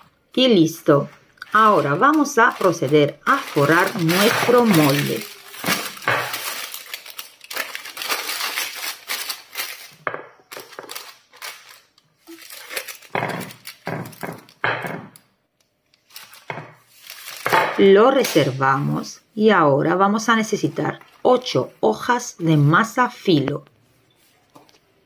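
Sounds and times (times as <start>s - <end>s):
parchment paper crinkling: 0.3s - 14.6s, 15.8s - 18.8s, 20.4s - 23.1s.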